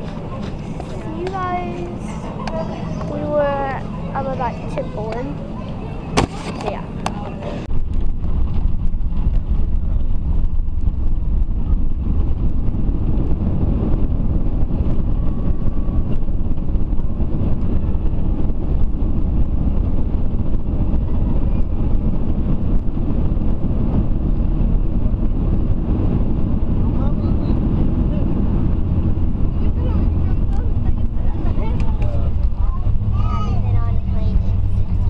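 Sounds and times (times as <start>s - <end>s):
airliner cabin engine roar: 0.0s - 35.0s.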